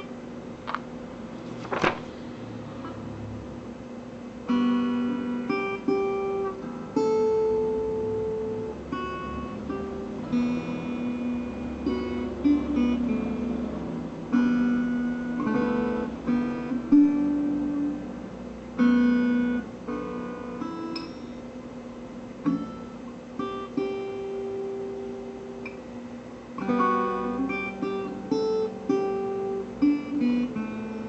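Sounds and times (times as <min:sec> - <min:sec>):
fingerstyle acoustic guitar: 0:04.3 - 0:21.5, 0:22.2 - 0:31.0.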